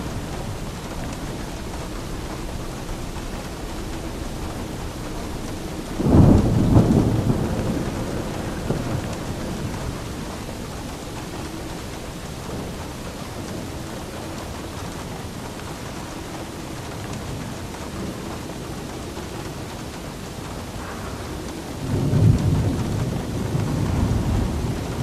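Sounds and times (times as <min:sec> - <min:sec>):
steady rain: 0:00.0 - 0:25.0
thunderclap rumbling: 0:00.0 - 0:25.0.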